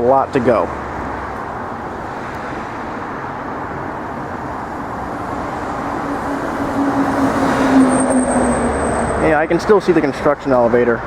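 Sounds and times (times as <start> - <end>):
road traffic noise: 0.0 - 11.0
vehicle engine hum: 0.6 - 11.0.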